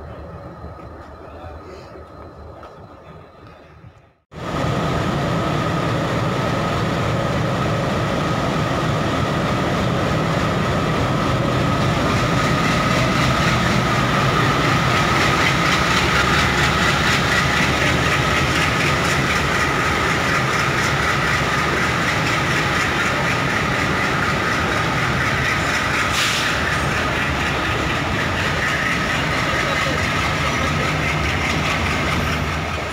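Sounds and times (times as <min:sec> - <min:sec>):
diesel locomotive: 0:00.0 - 0:32.9
train wheels rumbling: 0:00.0 - 0:32.9
clickety-clack over rail joints: 0:00.1 - 0:04.1, 0:10.4 - 0:32.9.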